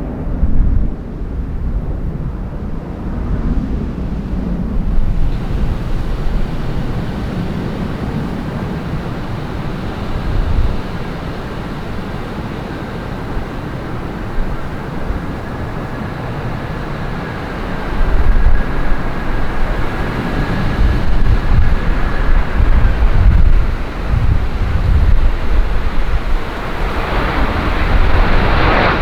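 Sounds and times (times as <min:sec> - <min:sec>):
jet engines running: 0:00.0 - 0:29.0
wind buffeting microphone: 0:00.0 - 0:29.0
faint high whine: 0:01.7 - 0:29.0.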